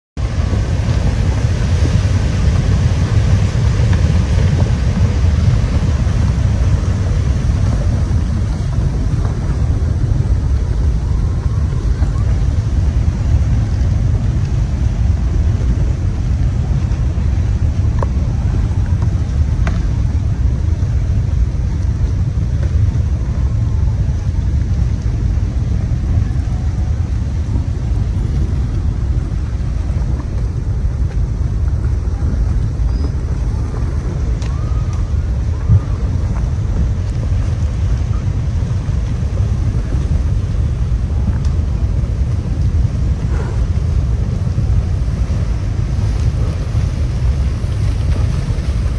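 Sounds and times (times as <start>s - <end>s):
wind buffeting microphone: 0.2s - 48.9s.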